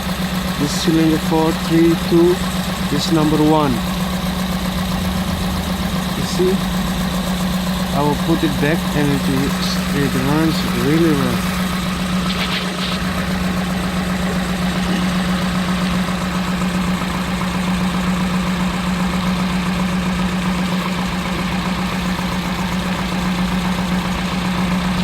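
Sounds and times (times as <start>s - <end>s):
engine idling rough: 0.0s - 25.0s.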